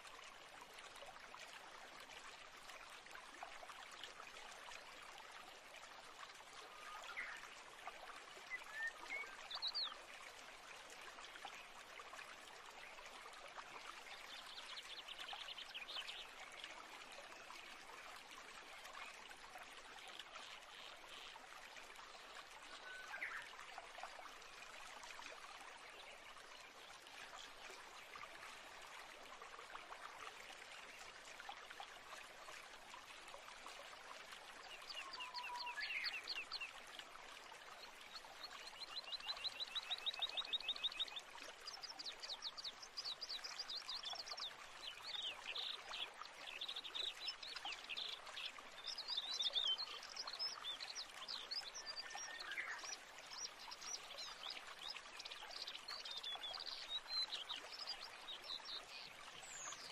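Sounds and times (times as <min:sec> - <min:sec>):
stream running water: 0:00.0 - 0:59.9.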